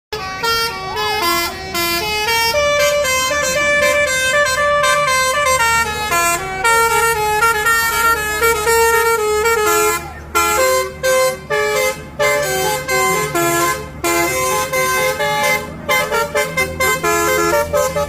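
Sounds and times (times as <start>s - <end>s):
bus engine running low: 0.1s - 18.0s
multi-tone bus horn tune: 0.1s - 18.0s.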